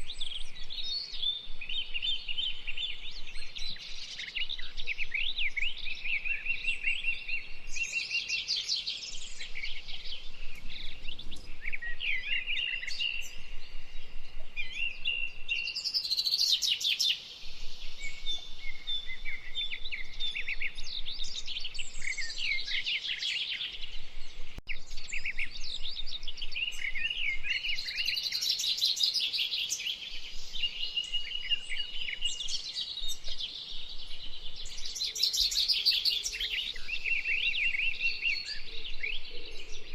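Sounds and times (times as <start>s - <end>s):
birds calling and singing: 0.0s - 39.9s.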